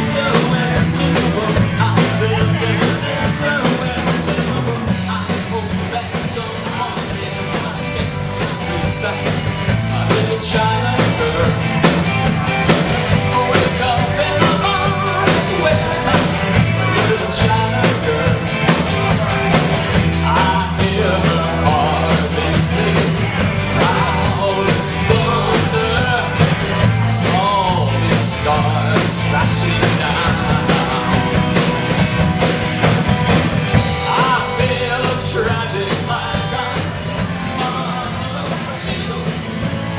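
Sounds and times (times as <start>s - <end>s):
person singing: 0.0s - 32.0s, 33.7s - 39.9s
rock band playing: 0.0s - 39.9s.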